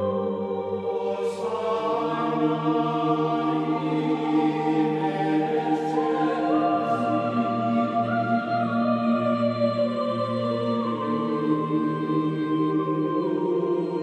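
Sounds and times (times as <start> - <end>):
slow ambient music chords: 0.0 - 14.0.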